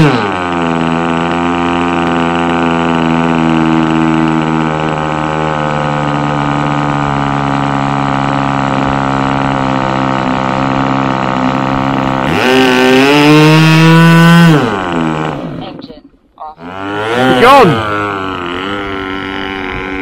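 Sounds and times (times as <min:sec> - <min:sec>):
model engine revving: 0:00.0 - 0:15.8, 0:16.6 - 0:20.0.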